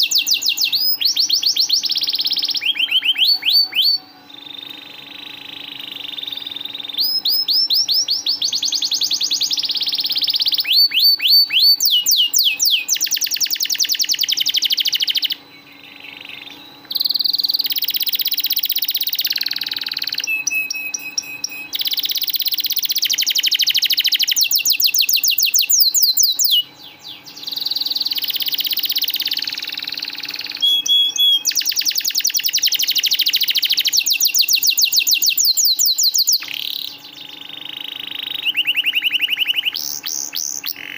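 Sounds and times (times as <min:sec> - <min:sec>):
canary singing rolling trills: 0:00.0 - 0:40.9.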